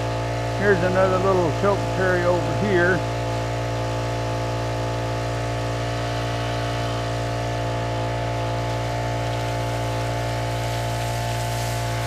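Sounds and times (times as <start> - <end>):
water pump engine humming: 0.0 - 12.0.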